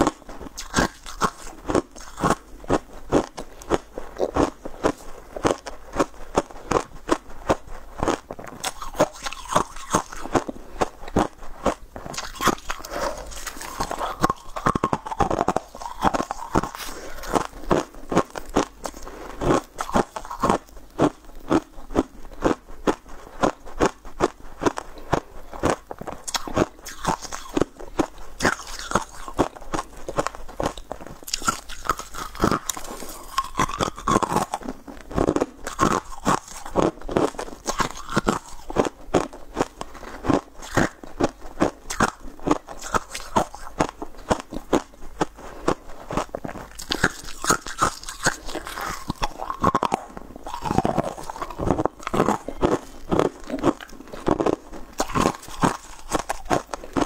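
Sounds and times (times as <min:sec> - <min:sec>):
cookies crunching: 0:00.0 - 0:57.0
wet chewing: 0:00.0 - 0:57.0.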